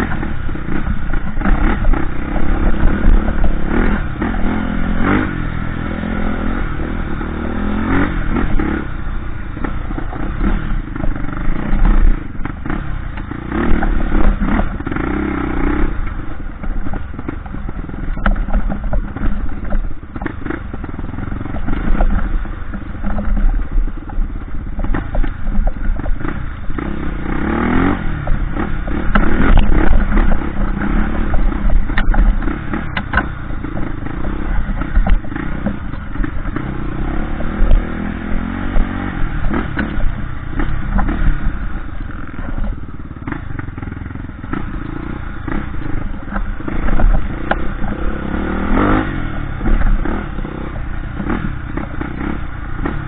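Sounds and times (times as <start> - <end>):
clatter over rough ground: 0.0 - 53.0
motorcycle engine revving: 0.0 - 53.0.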